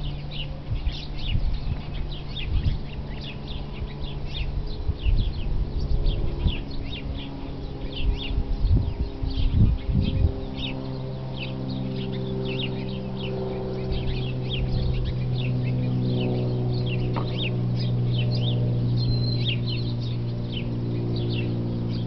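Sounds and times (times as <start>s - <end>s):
low drone of held tones: 0.0s - 22.0s
small birds chirping: 0.0s - 22.0s.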